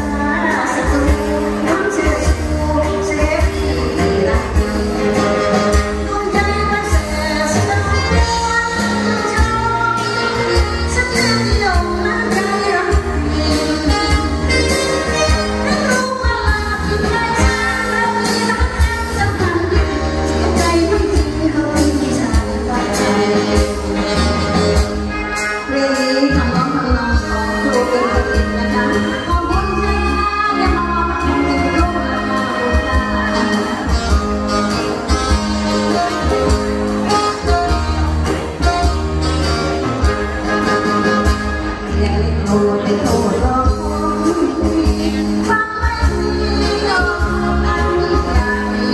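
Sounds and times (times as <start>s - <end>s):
woman singing into a microphone: 0.0s - 37.8s, 40.0s - 48.9s
band playing: 0.0s - 48.9s
guitar: 0.0s - 48.9s.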